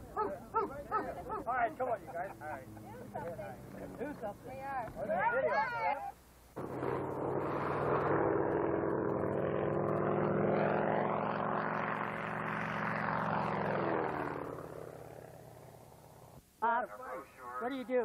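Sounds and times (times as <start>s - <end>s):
propeller airplane flying past: 0.0s - 4.6s, 6.5s - 16.4s.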